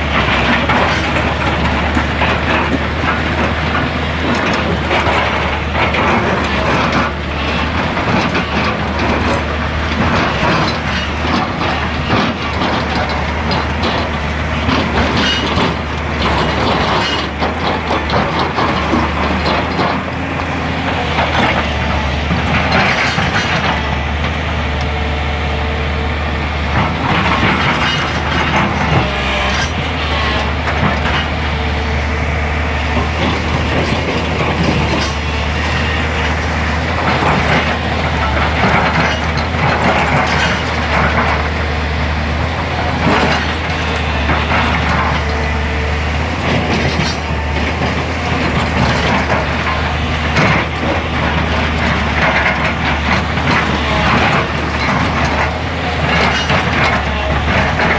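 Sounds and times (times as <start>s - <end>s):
excavator engine running: 0.0s - 57.9s.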